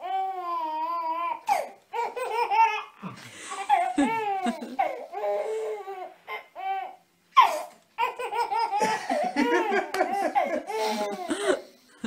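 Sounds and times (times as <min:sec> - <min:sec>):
baby laughing: 0:01.4 - 0:11.7.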